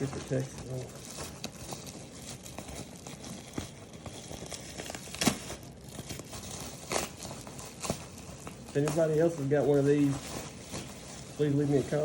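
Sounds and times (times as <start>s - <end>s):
packing wrap crinkling: 0.0s - 12.0s
packing wrap ripping: 0.0s - 12.0s.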